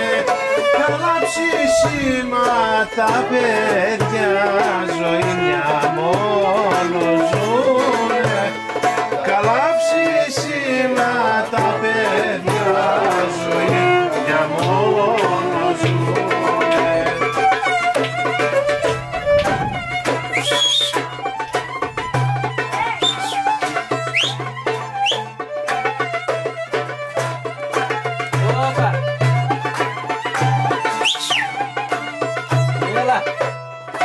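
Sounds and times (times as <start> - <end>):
bowed violin melody: 0.0 - 34.0
hand percussion beat: 0.0 - 34.0
lute: 0.0 - 34.0.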